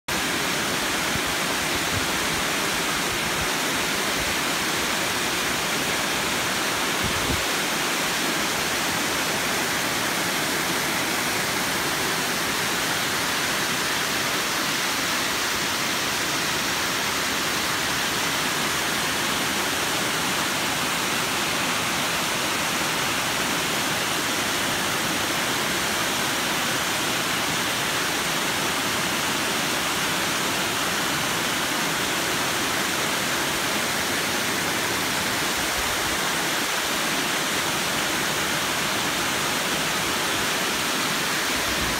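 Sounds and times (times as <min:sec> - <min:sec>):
waterfall rushing and splashing: 0:00.1 - 0:41.9.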